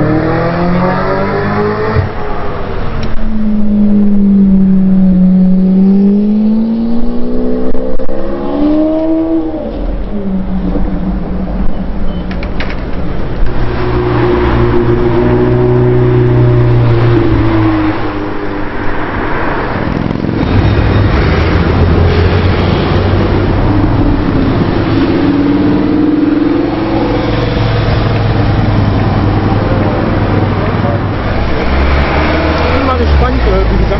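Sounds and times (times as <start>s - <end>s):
car engine revving: 0.0s - 11.8s, 13.0s - 33.9s.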